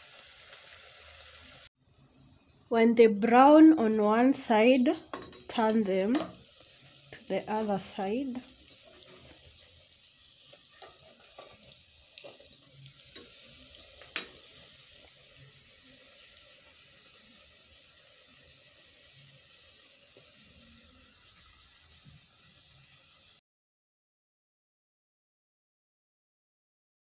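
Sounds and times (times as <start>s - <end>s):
food sizzling in hot oil: 0.0s - 23.4s.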